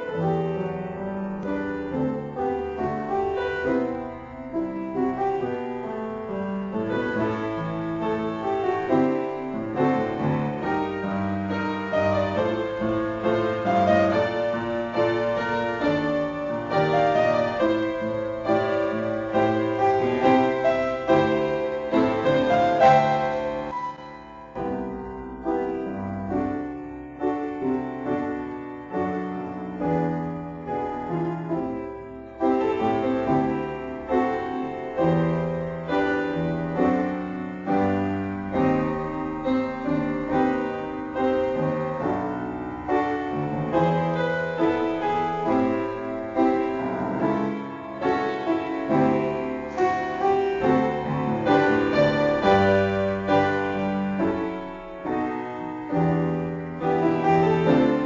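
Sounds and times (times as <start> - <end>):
gentle piano melody: 0.0 - 58.0.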